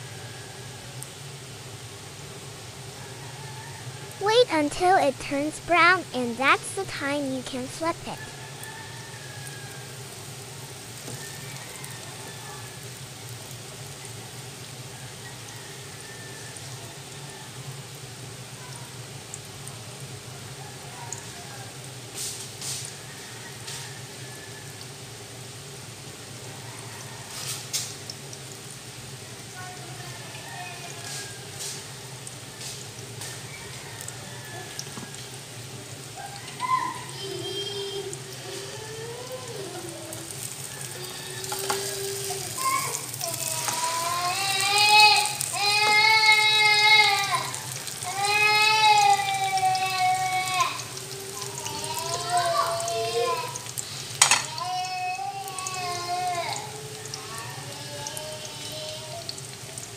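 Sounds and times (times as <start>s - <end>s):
omelette sizzling in a frying pan: 0.0s - 4.2s, 8.4s - 59.9s.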